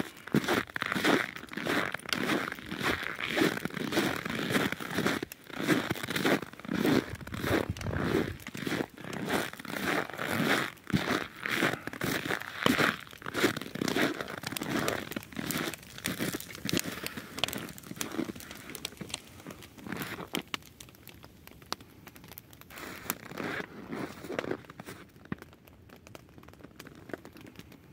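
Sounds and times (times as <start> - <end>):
fire crackling and popping: 0.0 - 27.9.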